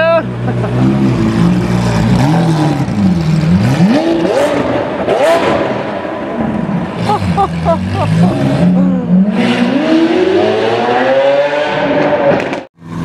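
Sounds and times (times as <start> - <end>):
car engine revving: 0.3 - 13.0.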